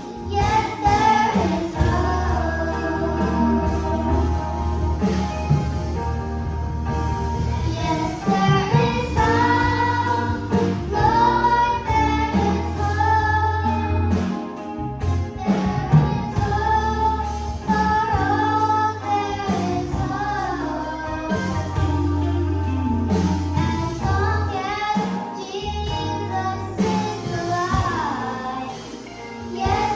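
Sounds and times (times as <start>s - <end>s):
children's choir singing: 0.0s - 5.2s, 7.3s - 14.2s, 15.4s - 21.7s, 23.9s - 29.9s
steady bass line: 0.0s - 24.8s
band accompaniment: 0.0s - 29.9s.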